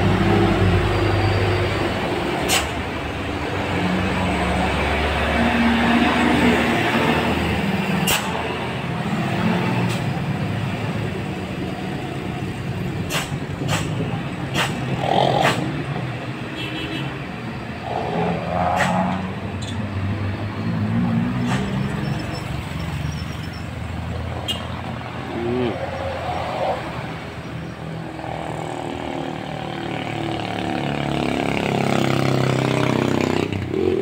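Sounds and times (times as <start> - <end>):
road traffic noise: 0.0 - 34.0.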